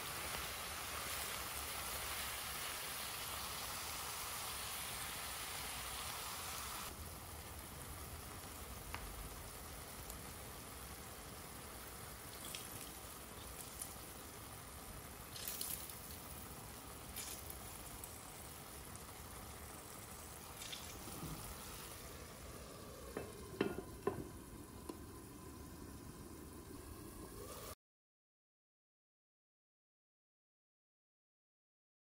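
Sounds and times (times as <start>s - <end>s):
food sizzling in frying pan: 0.0s - 27.8s.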